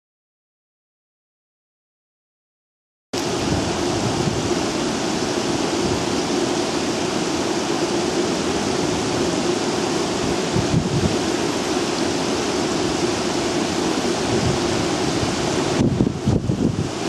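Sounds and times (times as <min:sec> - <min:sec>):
steady loud rushing noise: 0:03.2 - 0:17.0.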